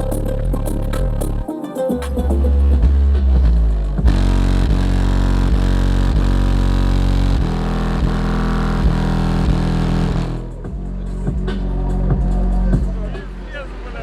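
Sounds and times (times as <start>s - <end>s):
bass-heavy music through subwoofers: 0.0s - 14.0s.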